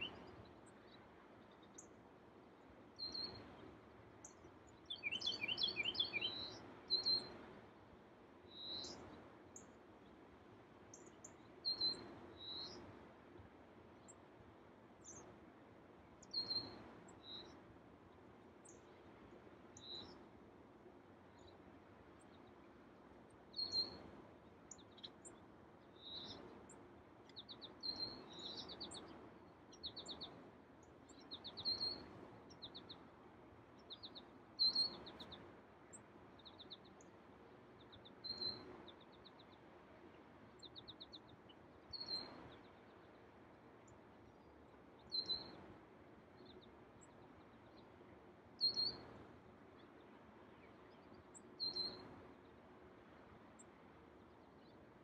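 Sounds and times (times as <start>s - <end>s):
songbird chirps: 0.0s - 55.0s.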